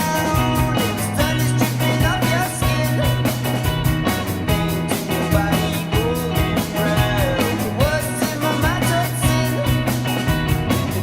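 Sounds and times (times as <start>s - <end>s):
held bass notes: 0.0s - 11.0s
rock music with singing: 0.0s - 11.0s
steady drum beat: 0.0s - 11.0s.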